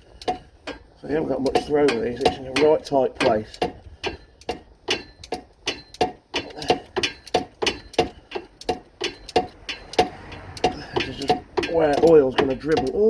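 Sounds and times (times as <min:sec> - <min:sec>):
ratchet wrench clicking: 0:00.2 - 0:13.0.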